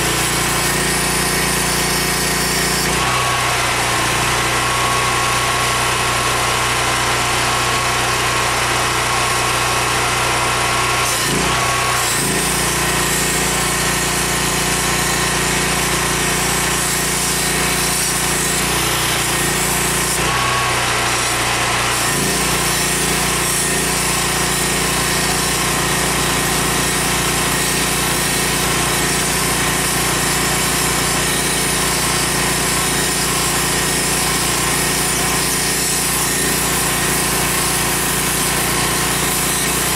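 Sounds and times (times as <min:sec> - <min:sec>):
cutoff tool cutting steel: 0:00.0 - 0:39.9.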